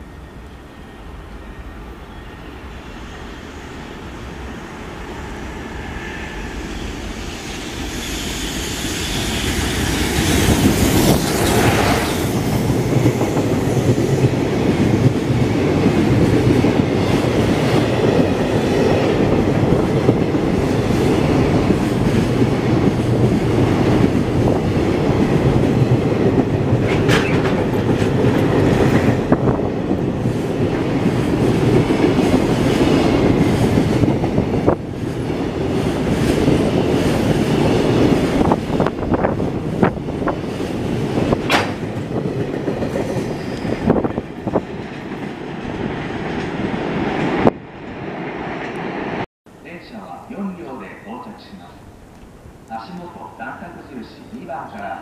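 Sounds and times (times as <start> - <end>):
freight train passing: 0.0 - 55.0
wheels rumbling and rattling on rails: 4.3 - 49.3.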